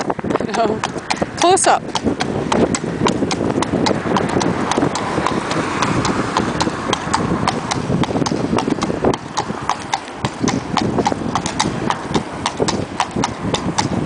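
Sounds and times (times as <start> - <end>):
horse hooves on tarmac: 0.0 - 14.0
wind buffeting microphone: 0.0 - 14.0.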